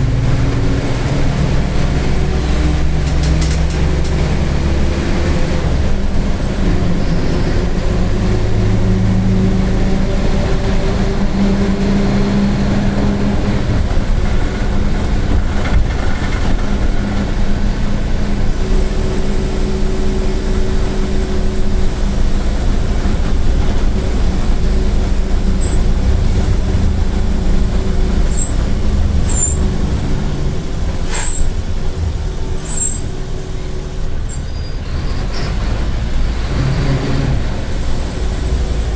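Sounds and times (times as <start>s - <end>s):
bus diesel engine running: 0.0s - 38.9s
growling differential drone: 0.0s - 38.9s.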